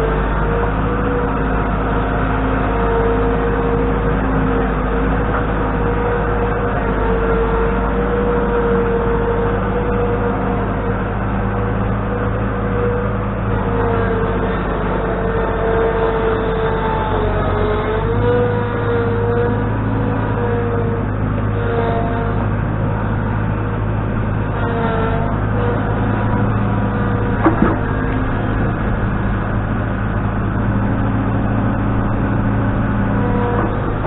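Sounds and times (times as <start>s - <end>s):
motor engine whining: 0.0s - 34.0s.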